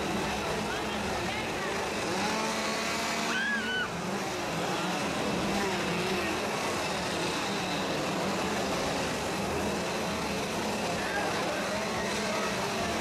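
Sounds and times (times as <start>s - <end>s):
chainsaws revving: 0.0s - 13.0s.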